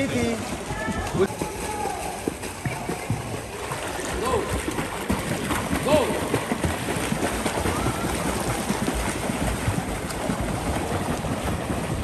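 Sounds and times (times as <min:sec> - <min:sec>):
swimmers splashing in pool: 0:00.0 - 0:12.0.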